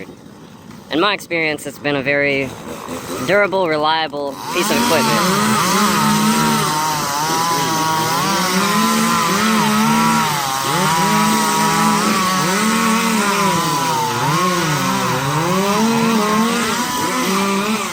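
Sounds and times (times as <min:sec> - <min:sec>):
chainsaw cutting wood: 0:02.2 - 0:17.9.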